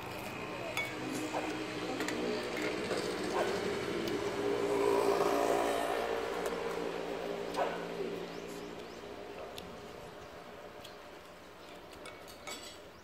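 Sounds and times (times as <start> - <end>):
passing motor vehicle engine: 0.0 - 11.4.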